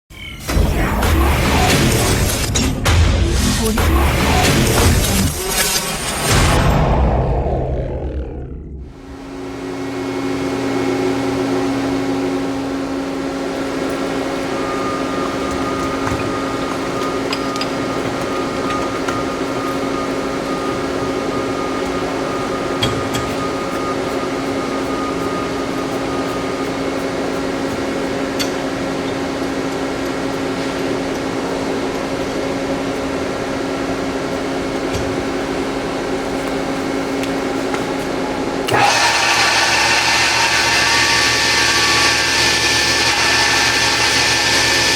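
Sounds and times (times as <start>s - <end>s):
woodworking machine humming: 7.7s - 44.9s.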